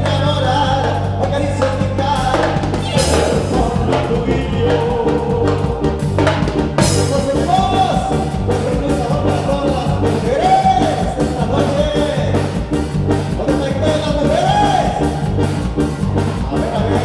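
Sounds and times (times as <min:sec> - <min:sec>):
live band music: 0:00.0 - 0:17.0
steady drum beat: 0:00.0 - 0:17.0.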